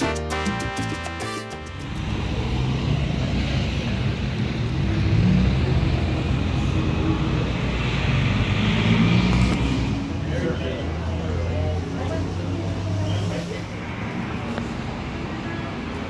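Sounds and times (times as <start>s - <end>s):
traffic rumble of passing vehicles: 1.6s - 16.0s.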